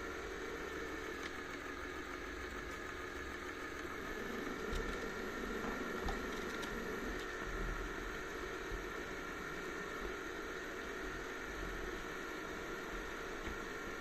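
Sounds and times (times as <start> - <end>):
robot vacuum cleaner whirring: 0.0 - 11.4.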